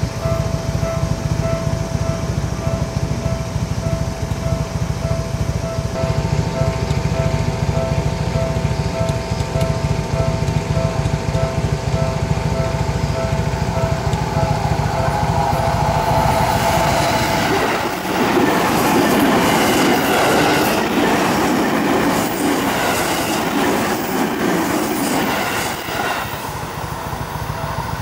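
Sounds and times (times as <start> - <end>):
level crossing warning bell: 0.0 - 28.0
train wheels clacking over joints: 2.4 - 28.0.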